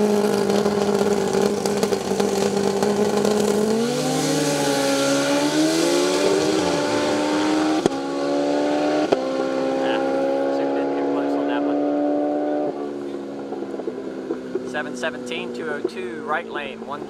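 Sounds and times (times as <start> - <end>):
motorcycles revving and accelerating: 0.0 - 17.0.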